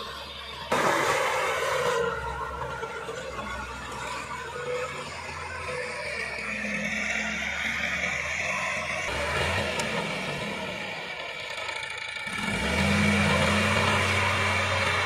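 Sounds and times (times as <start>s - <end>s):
tiller working soil: 0.0s - 15.0s
tractor diesel engine running: 0.0s - 15.0s.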